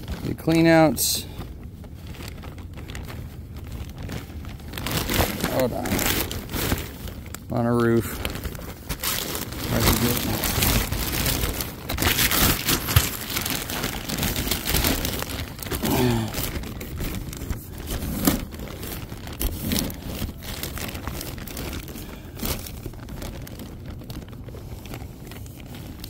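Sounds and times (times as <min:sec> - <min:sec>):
crinkling and rustling handling noise: 0:00.0 - 0:26.0.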